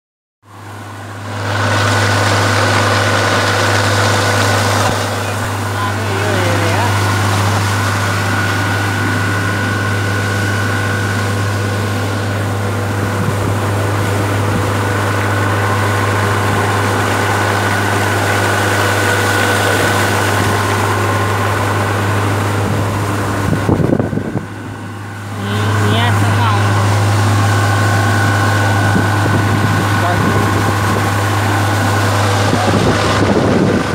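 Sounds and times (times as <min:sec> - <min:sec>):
outboard motor droning: 0:00.4 - 0:33.9
wind and water rushing: 0:00.5 - 0:33.9.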